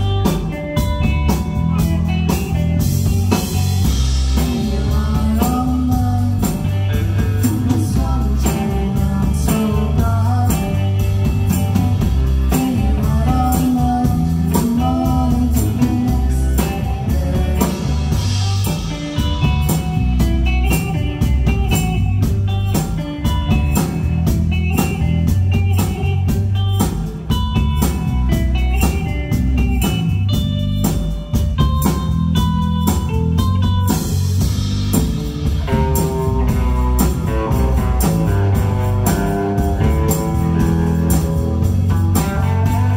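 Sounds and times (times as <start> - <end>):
bass guitar: 0.0 - 42.9
drum kit steady beat: 0.0 - 42.9
electric guitar: 0.0 - 42.9.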